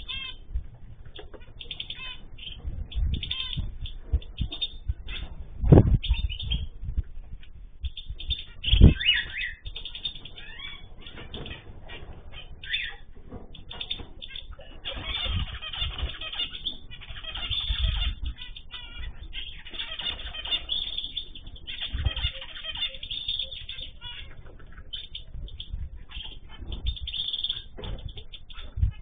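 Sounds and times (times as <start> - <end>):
finches chirping and calling: 0.0 - 29.0
wings fluttering: 0.0 - 29.0.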